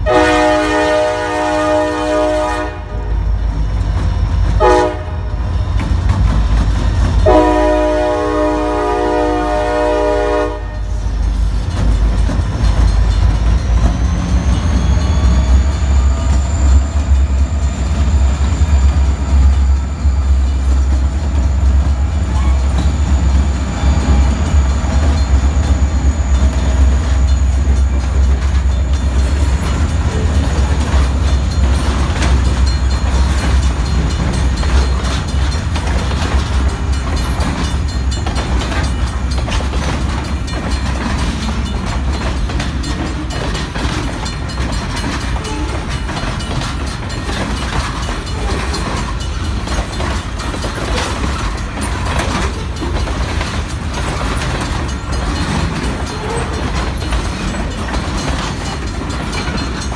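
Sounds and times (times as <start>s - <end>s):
diesel locomotive engine rumble: 0.0s - 59.9s
freight car wheels clicking on track: 9.9s - 59.9s.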